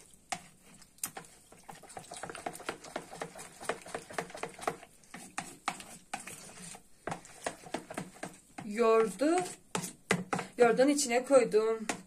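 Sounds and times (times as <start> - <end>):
spoon scraping plastic bowl: 0.0 - 10.8.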